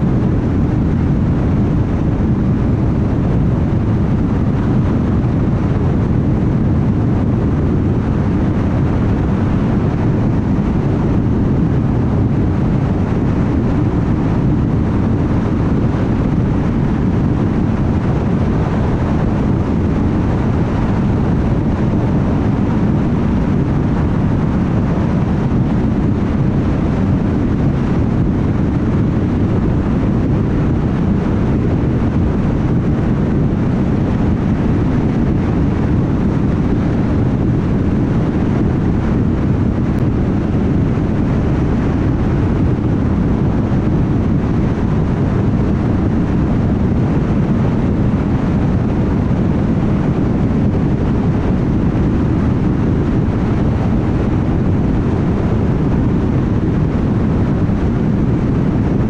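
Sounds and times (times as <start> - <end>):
wind noise: 0.0 - 59.0.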